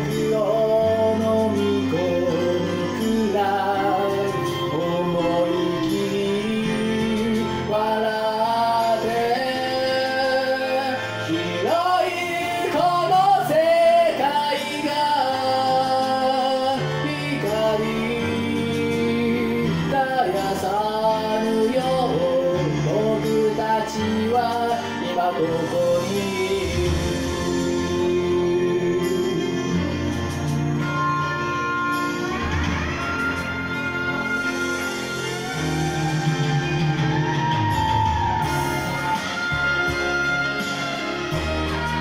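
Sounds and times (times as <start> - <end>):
karaoke band backing track: 0.0 - 42.0
man singing ballad: 0.0 - 42.0.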